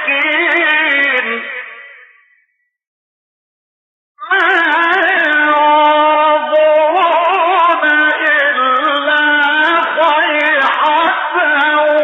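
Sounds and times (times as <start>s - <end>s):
man chanting melodically: 0.0s - 2.3s, 4.2s - 12.0s.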